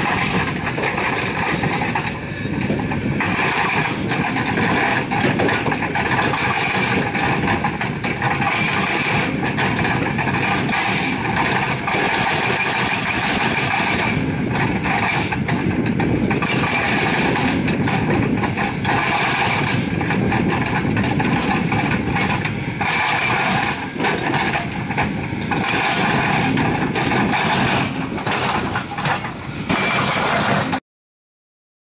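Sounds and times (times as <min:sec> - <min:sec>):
excavator engine under load: 0:00.0 - 0:30.8
hydraulic breaker hammering: 0:00.0 - 0:30.8.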